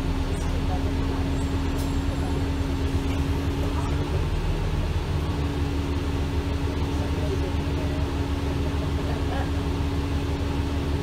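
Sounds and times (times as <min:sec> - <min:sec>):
bus engine rumble: 0:00.0 - 0:11.0
bus whine: 0:00.0 - 0:11.0.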